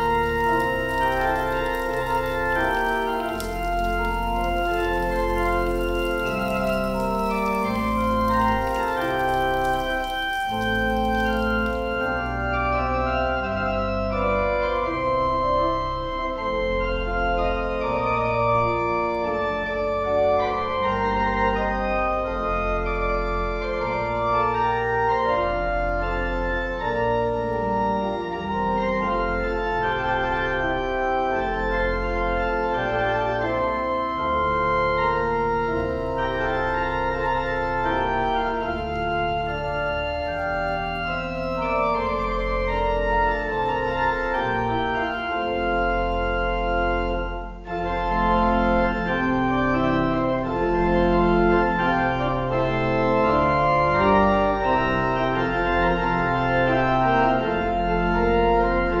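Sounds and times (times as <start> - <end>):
organ playing held chords: 0.0 - 59.0.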